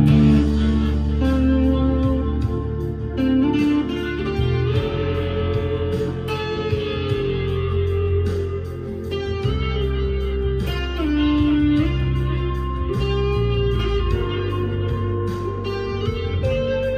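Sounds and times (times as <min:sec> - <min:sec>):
overdriven electric guitar: 0:00.0 - 0:16.9.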